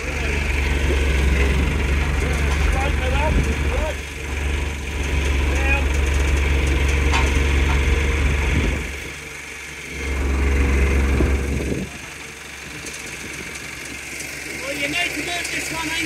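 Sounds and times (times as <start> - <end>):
forklift engine revving: 0.0 - 16.0.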